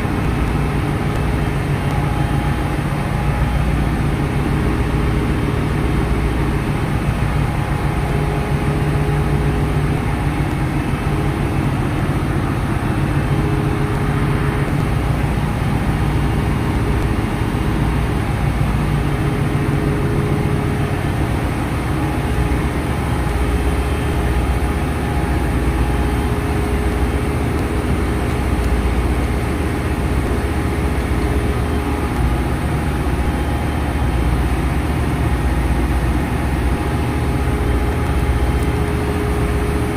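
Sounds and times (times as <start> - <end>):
engine room machinery drone: 0.0 - 39.9
faint machine whine: 0.0 - 39.9.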